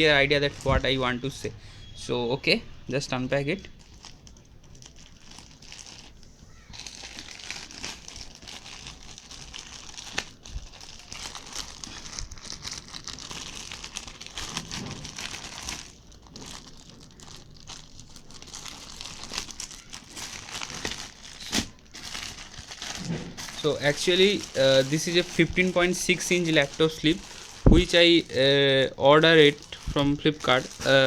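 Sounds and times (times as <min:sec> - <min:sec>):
packaging crinkling: 0:03.2 - 0:31.0.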